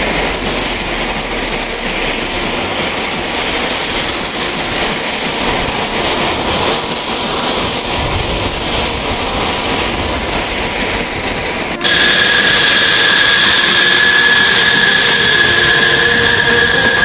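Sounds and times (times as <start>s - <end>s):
high steady whine: 0.0s - 17.0s
jet engines idling: 0.0s - 17.0s.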